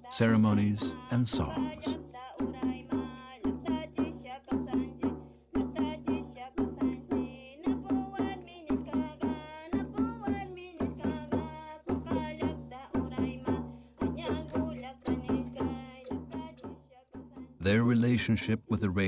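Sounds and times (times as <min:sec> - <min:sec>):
hand drum beats: 0:00.1 - 0:18.1.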